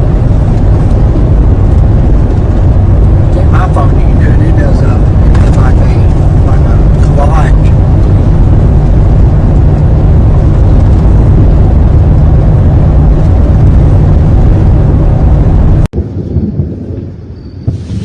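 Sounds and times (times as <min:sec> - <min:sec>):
storm wind on microphone: 0:00.0 - 0:18.0.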